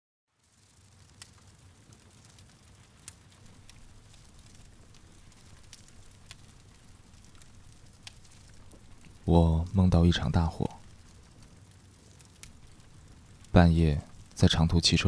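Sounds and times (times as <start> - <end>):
flame crackling: 0.3 - 15.0.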